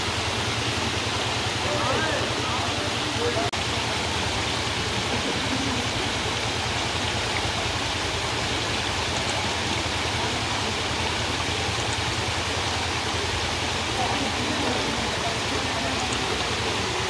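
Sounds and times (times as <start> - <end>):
waterfall rushing into pool: 0.0 - 17.0.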